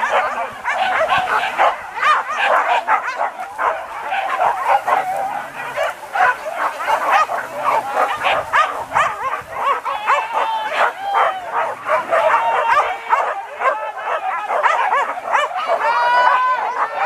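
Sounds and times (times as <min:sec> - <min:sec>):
dogs yelping and barking: 0:00.0 - 0:17.0.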